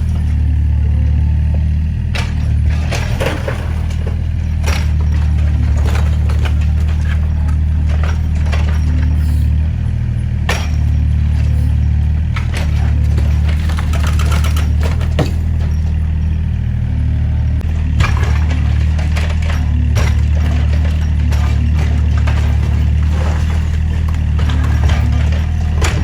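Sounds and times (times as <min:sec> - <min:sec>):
excavator diesel engine running: 0:00.0 - 0:26.0
knocks and cracks of demolition: 0:00.0 - 0:26.0.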